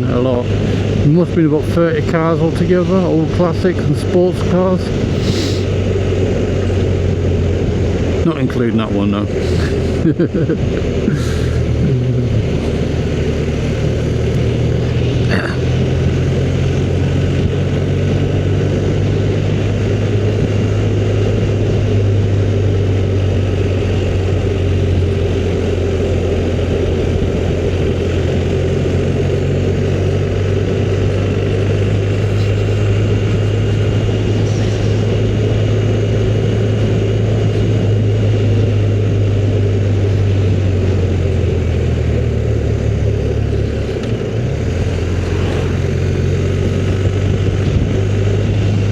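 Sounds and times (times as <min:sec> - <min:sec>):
motorcycle engine cruising: 0:00.0 - 0:48.9
road and wind noise: 0:00.0 - 0:48.9.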